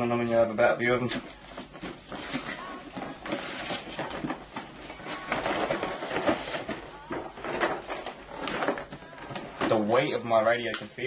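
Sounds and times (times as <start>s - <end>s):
packaging rustling and crinkling: 0.6s - 10.8s.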